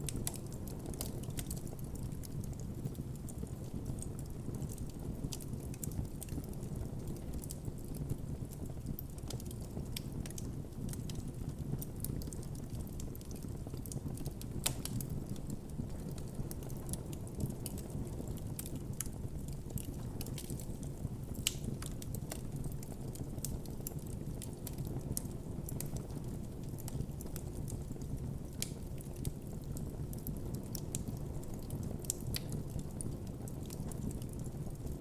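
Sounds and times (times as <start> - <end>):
campfire flames rumbling: 0.0 - 35.0
fire crackling and popping: 0.0 - 35.0.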